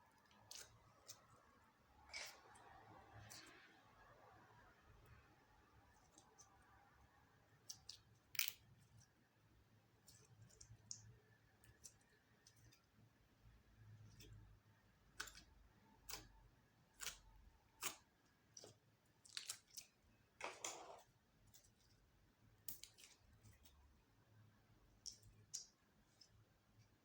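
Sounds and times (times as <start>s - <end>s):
slime squelch: 0.0s - 27.0s.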